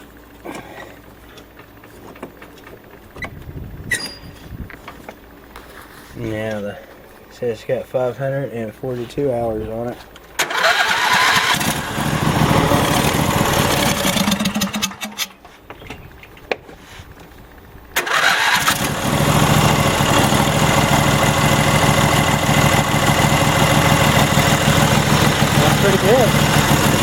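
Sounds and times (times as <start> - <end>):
mower engine running: 0.0 - 27.0
mower engine cranking: 0.5 - 7.2, 9.7 - 16.5, 17.9 - 27.0.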